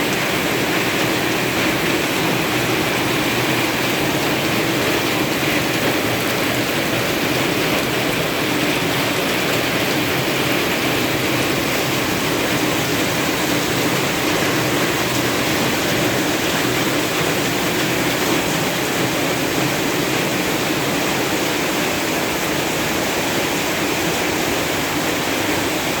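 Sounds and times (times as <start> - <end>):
heavy rain pouring: 0.0 - 26.0
running water: 0.0 - 26.0.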